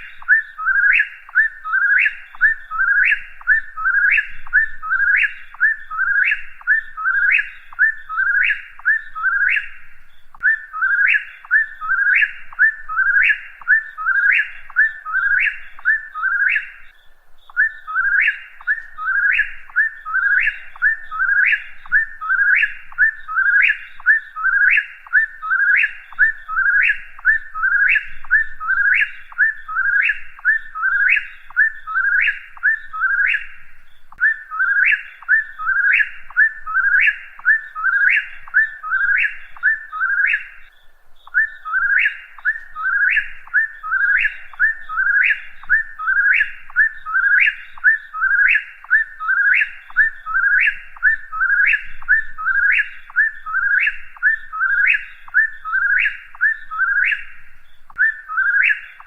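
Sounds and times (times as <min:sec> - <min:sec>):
bird whistling song: 0:00.0 - 0:59.0.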